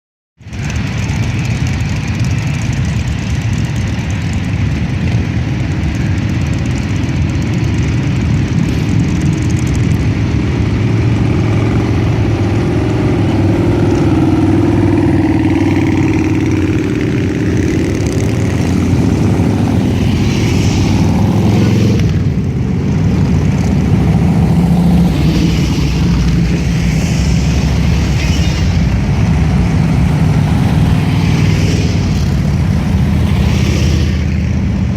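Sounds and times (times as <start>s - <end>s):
many motorcycle engines rumbling: 0.4s - 34.9s.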